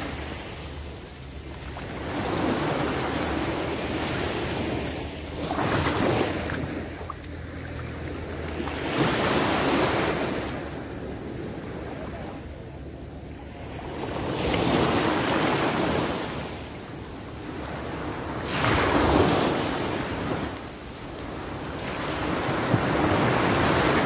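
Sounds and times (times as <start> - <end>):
small waves breaking on sand: 0.0 - 12.6, 13.5 - 24.0
wind rumble on microphone: 0.0 - 24.0.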